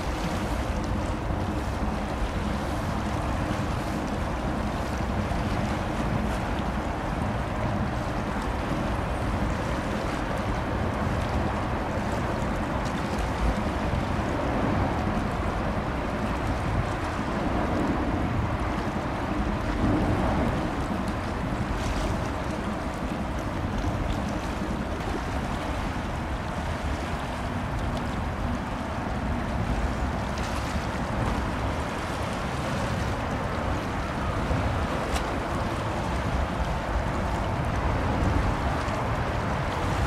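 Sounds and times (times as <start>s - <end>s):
sea water washing: 0.0s - 40.0s
wind buffeting microphone: 0.0s - 40.0s.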